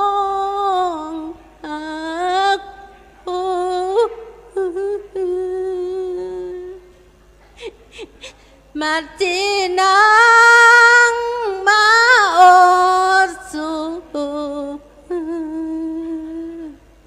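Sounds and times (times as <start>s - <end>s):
woman singing chant unaccompanied: 0.0s - 6.9s, 8.7s - 16.9s.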